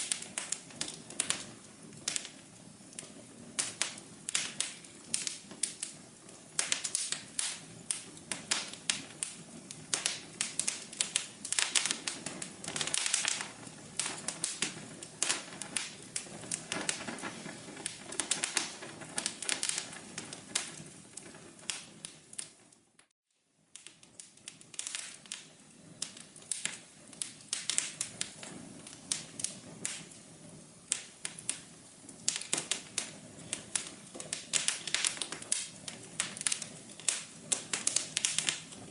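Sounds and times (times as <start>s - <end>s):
faint hiss: 0.0s - 38.9s
fire crackling: 0.0s - 38.9s.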